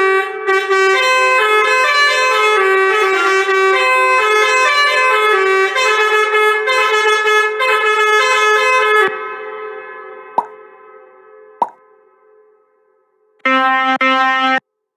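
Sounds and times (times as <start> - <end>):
multi-tone bus horn tune: 0.0 - 11.6, 13.4 - 14.7.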